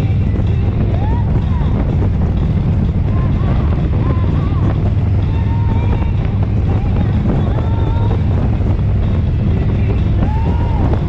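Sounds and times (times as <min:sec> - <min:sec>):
motorcycle engine rumbling: 0:00.0 - 0:11.0
wind noise on microphone: 0:00.0 - 0:11.0.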